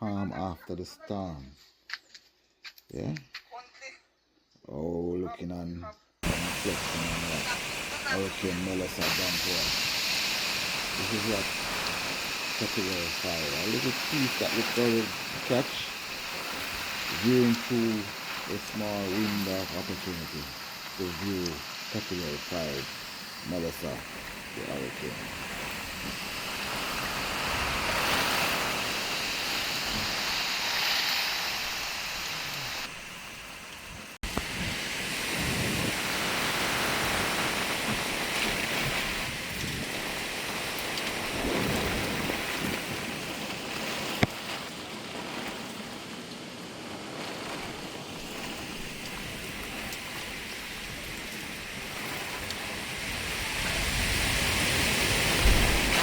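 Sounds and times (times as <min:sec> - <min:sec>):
heavy rain: 0:06.2 - 0:56.0
strong gusting wind: 0:06.2 - 0:56.0.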